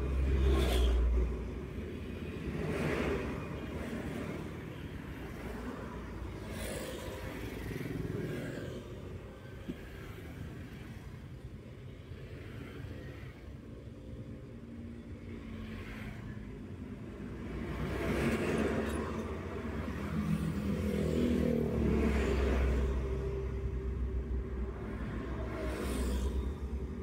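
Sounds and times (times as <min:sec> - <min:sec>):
passing traffic: 0:00.0 - 0:27.0.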